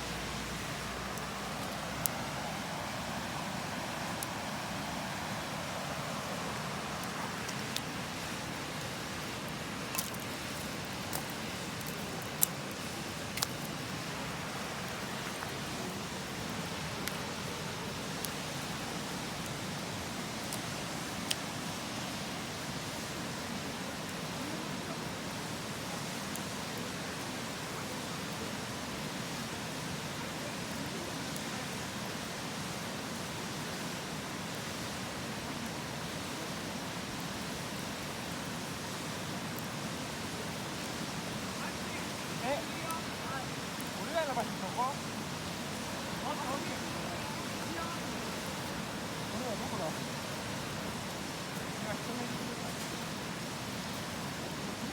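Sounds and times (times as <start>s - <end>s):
campfire crackling and popping: 0.0s - 24.5s, 34.4s - 54.9s
river rushing: 0.0s - 54.9s.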